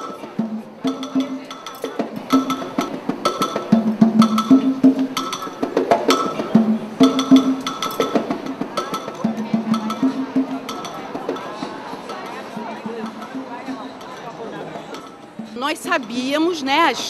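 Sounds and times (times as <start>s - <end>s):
percussion-led music: 0.0s - 17.0s.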